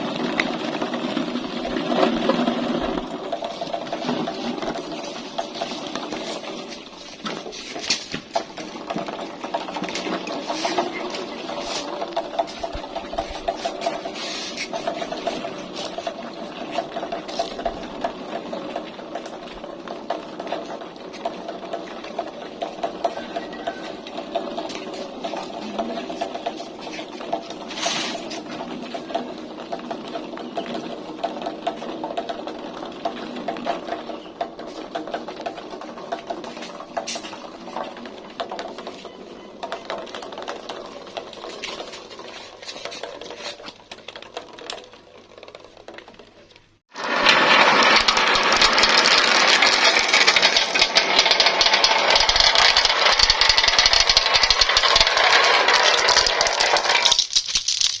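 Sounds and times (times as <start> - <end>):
loud dense marble clatter: 0.0 - 58.0
marbles rattling down plastic track: 0.0 - 58.0.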